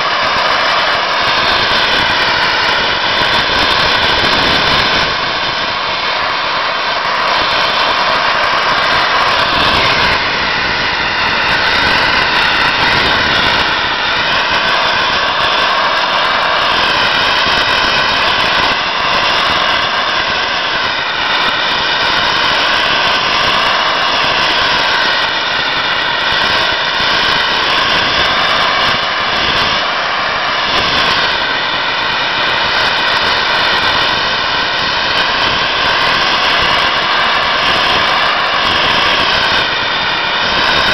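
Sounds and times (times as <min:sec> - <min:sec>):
sandblaster hissing on metal: 0:00.0 - 0:40.9.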